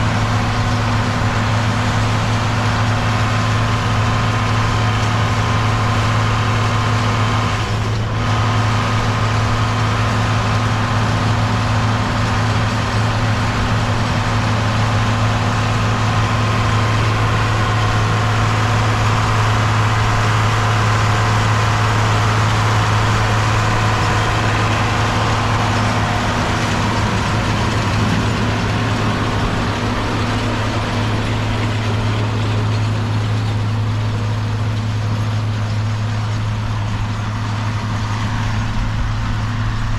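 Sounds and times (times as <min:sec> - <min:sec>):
tractor diesel engine droning: 0:00.0 - 0:39.9.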